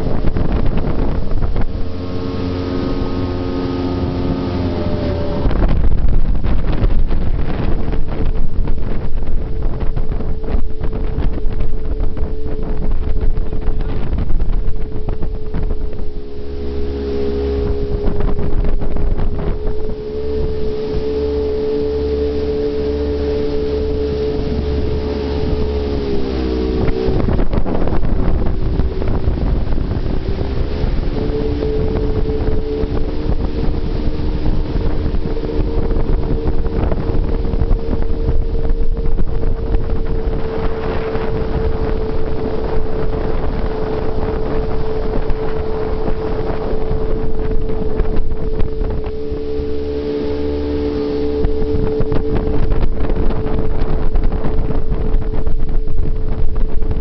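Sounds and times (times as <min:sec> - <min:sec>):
boat engine whine and rumble: 0:00.0 - 0:57.0
wind buffeting microphone: 0:00.0 - 0:57.0.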